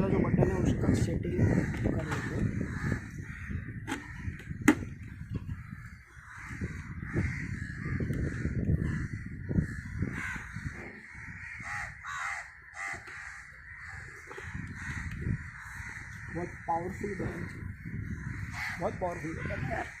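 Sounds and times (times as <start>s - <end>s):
crows cawing: 0.0s - 20.0s.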